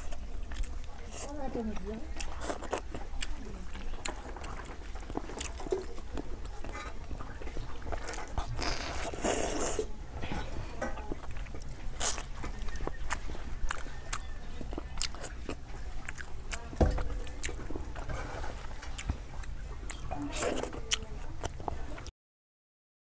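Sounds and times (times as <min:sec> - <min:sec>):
chewing and wet mouth clicks: 0:00.0 - 0:01.3, 0:02.1 - 0:09.9, 0:11.0 - 0:22.1.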